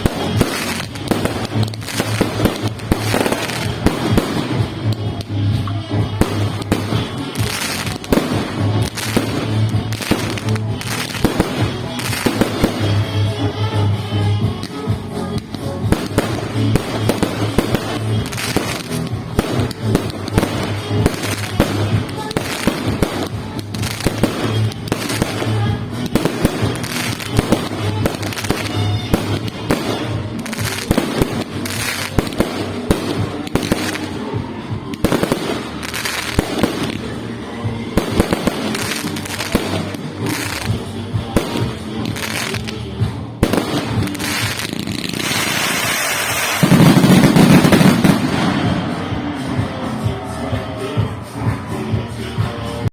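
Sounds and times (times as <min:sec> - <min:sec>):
background music: 0:00.0 - 0:52.9
firework bangs and crackles: 0:00.0 - 0:52.9.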